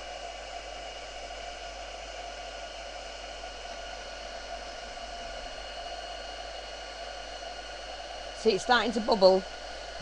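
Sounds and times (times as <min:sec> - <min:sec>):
heat gun blowing hiss: 0:00.0 - 0:10.0.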